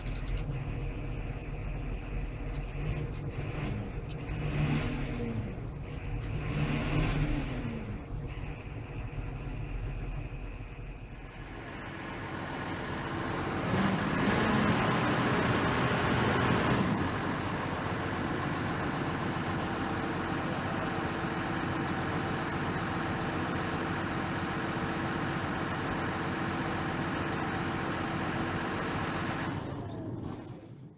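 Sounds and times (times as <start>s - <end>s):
tractor diesel engine running: 0.0s - 30.7s
high engine whine: 0.0s - 30.9s.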